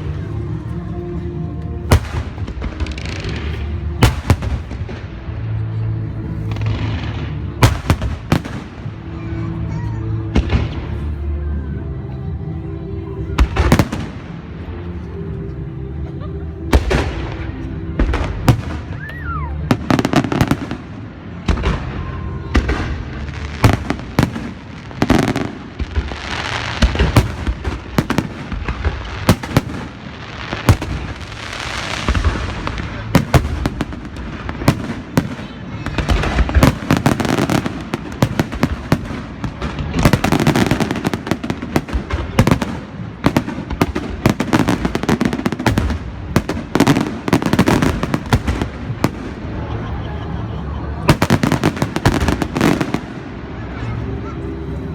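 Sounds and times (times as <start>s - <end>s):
fireworks bangs: 1.9s - 9.3s, 16.7s - 54.0s.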